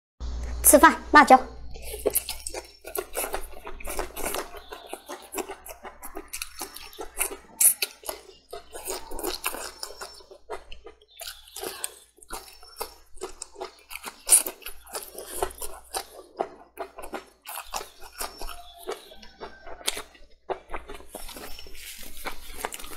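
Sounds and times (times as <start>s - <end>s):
chewing and crunching peppers: 1.6s - 22.9s
wet mouth sounds: 1.7s - 22.9s.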